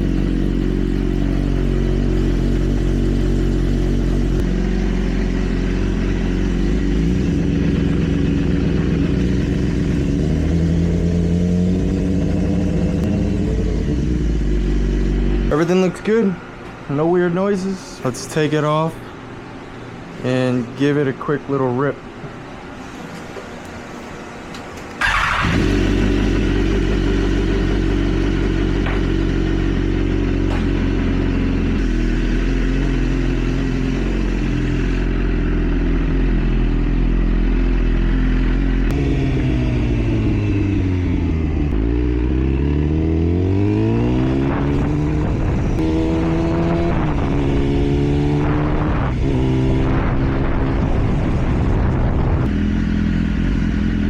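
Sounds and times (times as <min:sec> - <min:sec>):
motorcycle engine accelerating: 0:00.0 - 0:16.1, 0:25.0 - 0:54.0.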